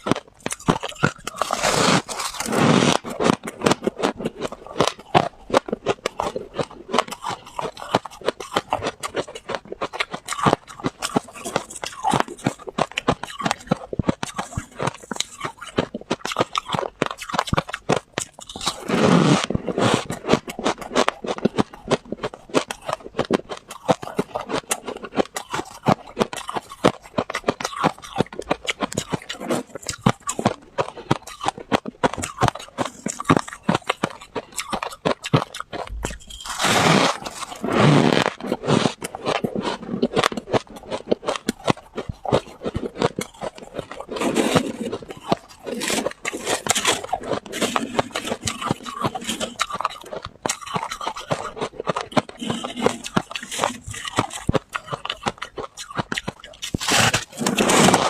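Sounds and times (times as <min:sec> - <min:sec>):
chewing crunchy frost: 0:00.0 - 0:58.0.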